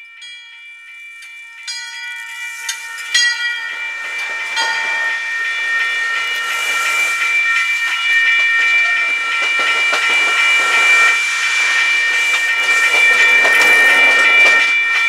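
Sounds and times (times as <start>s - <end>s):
high-pitched ringing squeal: 0.0s - 15.0s
train cars hissing past: 2.2s - 14.8s
train wheel clicks: 2.7s - 15.0s.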